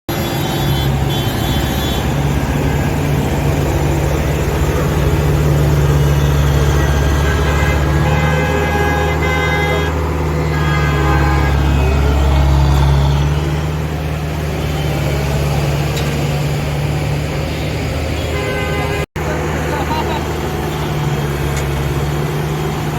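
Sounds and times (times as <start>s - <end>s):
vehicle horns honking: 0.1s - 16.2s, 17.5s - 19.3s, 20.6s - 22.2s
heavy diesel engine droning: 0.1s - 22.9s.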